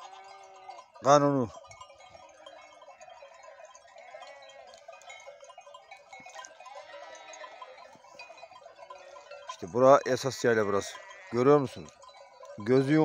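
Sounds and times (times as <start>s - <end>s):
sheep and goats bleating: 0.0s - 13.0s
tinkle of bells: 0.0s - 13.0s.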